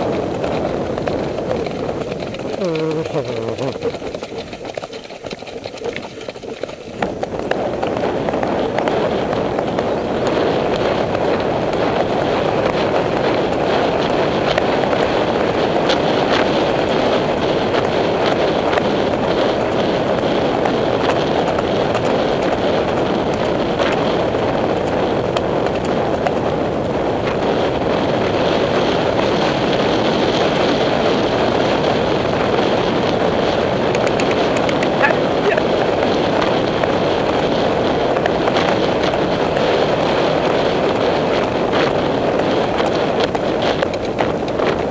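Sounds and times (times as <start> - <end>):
wind rush on microphone: 0.0 - 44.9.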